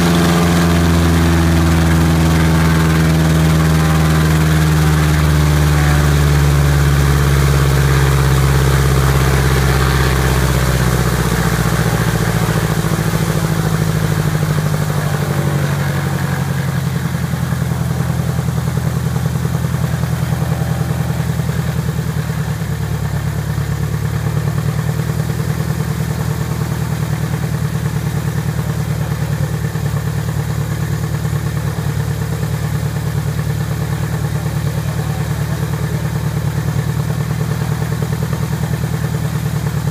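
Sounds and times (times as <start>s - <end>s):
piston aircraft engines idling: 0.0s - 39.9s.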